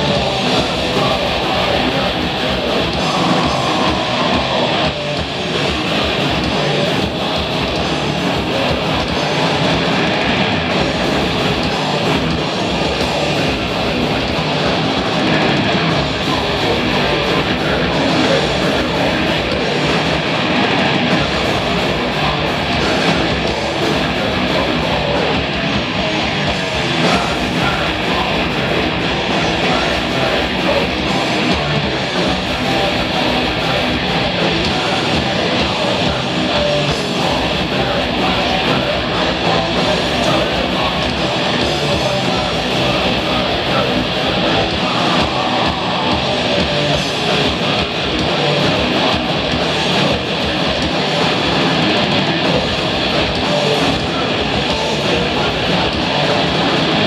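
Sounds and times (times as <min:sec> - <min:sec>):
drums: 0:00.0 - 0:57.0
electric guitars: 0:00.0 - 0:57.0
live band playing rock music: 0:00.0 - 0:57.0.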